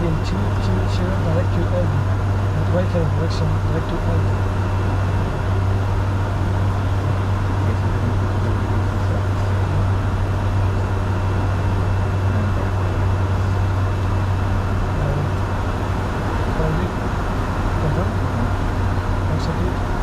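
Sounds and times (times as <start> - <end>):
jet cockpit airflow and engine noise: 0.0 - 20.0
strong low hum: 0.0 - 20.0.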